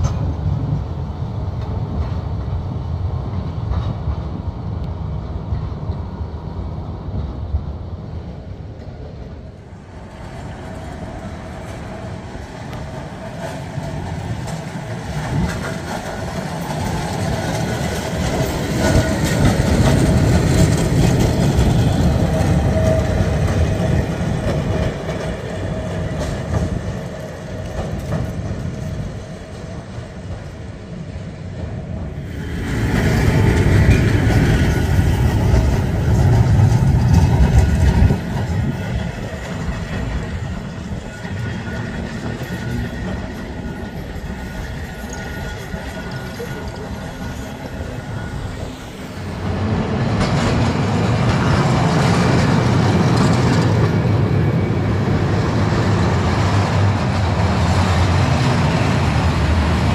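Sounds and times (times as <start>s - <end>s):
steady tram whine: 0.0s - 59.9s
tram wheels rattling on track: 0.0s - 59.9s.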